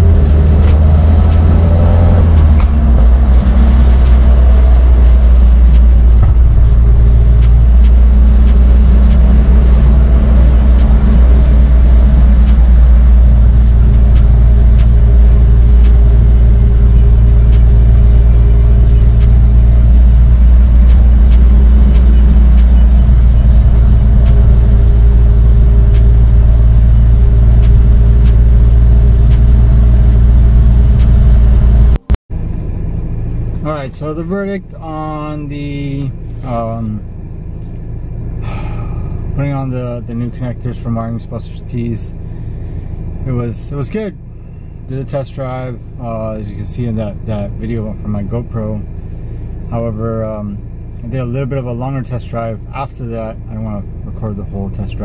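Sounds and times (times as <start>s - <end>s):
car engine and road drone: 0.0s - 55.0s.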